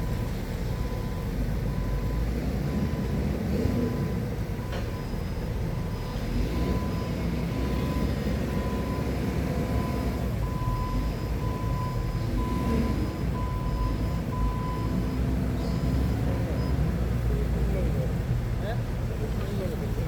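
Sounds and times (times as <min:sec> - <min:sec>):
forklift engine running: 0:00.0 - 0:17.6
reverse warning beeps: 0:00.0 - 0:17.8.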